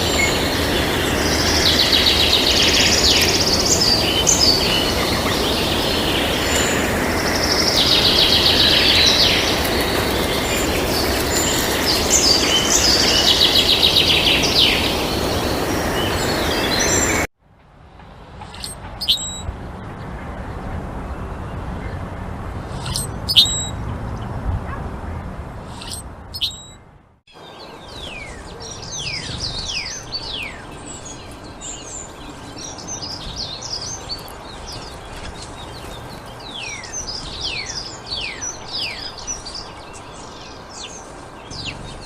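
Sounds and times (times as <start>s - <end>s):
sharp bird calls: 0.0s - 17.3s, 18.5s - 19.5s, 22.7s - 23.8s, 25.7s - 42.0s
small birds chirping and trilling: 0.0s - 17.3s, 18.6s - 19.5s, 22.7s - 24.3s, 25.7s - 42.0s.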